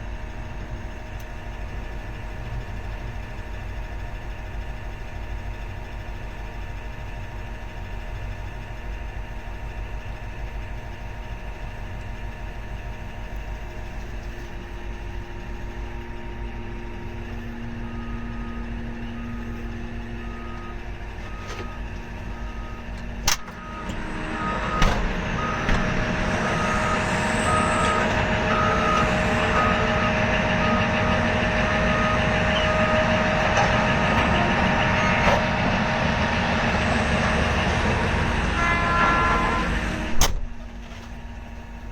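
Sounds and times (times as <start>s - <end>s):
excavator diesel engine running: 0.0s - 41.9s
truck reversing alarm beeping: 0.0s - 41.9s.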